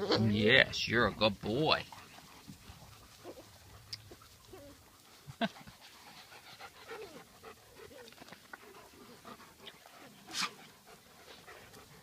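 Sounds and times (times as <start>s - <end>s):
dog panting: 1.8s - 12.0s.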